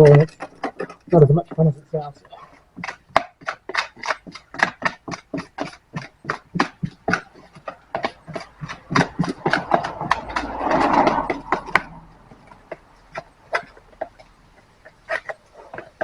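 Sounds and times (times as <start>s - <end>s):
stirrer scraping plastic container: 2.3s - 16.0s.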